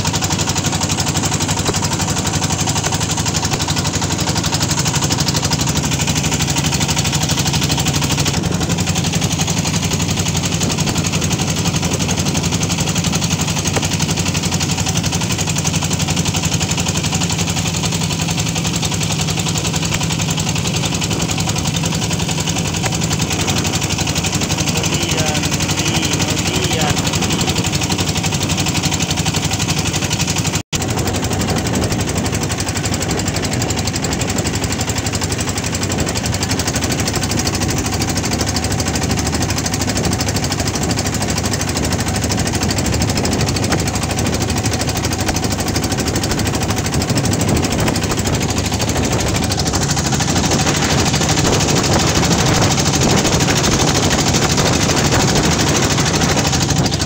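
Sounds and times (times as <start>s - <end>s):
boat diesel engine knocking: 0.0s - 57.0s.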